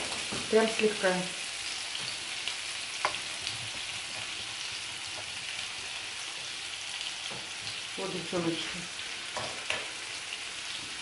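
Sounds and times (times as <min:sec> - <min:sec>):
vegetables sizzling in pan: 0:00.0 - 0:11.0.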